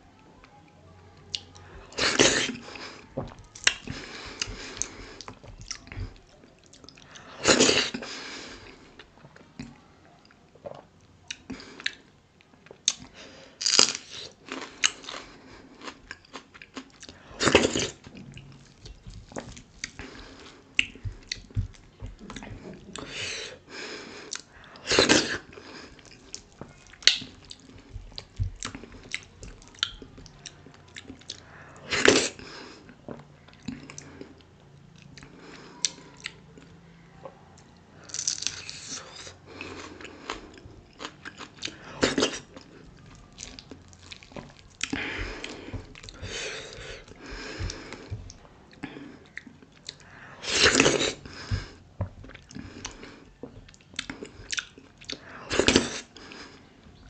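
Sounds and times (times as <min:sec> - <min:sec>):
wet chewing and smacking: 0:01.3 - 0:09.8, 0:10.5 - 0:23.2, 0:24.2 - 0:57.0.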